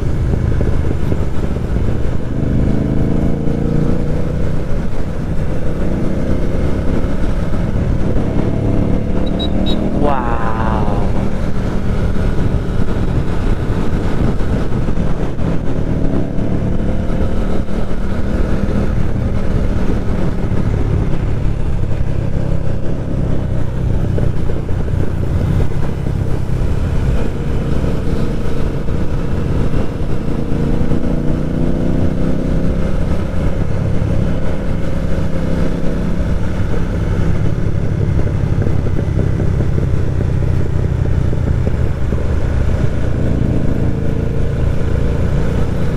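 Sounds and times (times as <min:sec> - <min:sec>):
motorcycle engine accelerating: 0:00.0 - 0:45.9
road rumble: 0:00.0 - 0:45.9
wind: 0:00.0 - 0:45.9.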